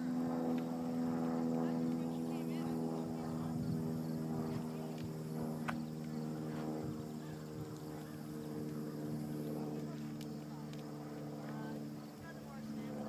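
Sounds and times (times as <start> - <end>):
steady engine-like drone: 0.0 - 13.0.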